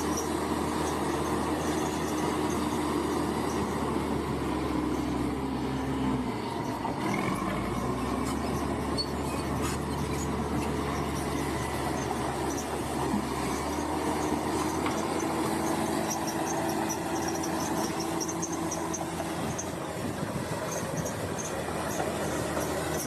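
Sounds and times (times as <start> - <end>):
bulldozer diesel engine: 0.0 - 23.0.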